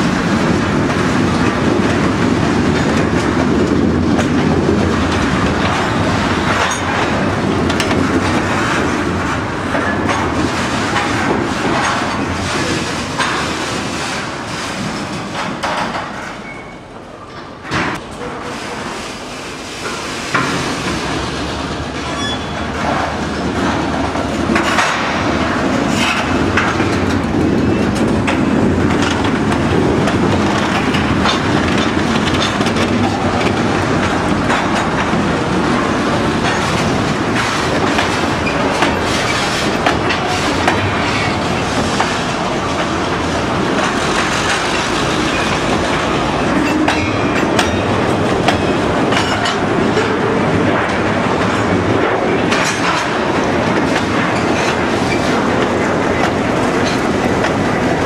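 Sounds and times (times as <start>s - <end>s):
wheels clacking over rail joints: 0.0s - 16.6s, 19.8s - 58.0s
train wheels rumbling on rail: 0.0s - 58.0s.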